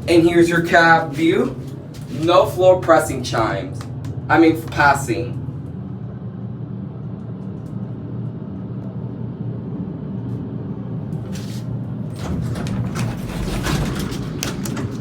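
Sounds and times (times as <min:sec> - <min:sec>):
elevator low hum: 0:00.0 - 0:15.0.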